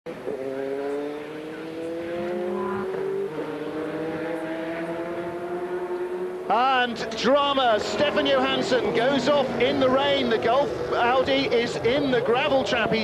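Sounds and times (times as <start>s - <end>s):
race car engine accelerating: 0.1s - 13.0s.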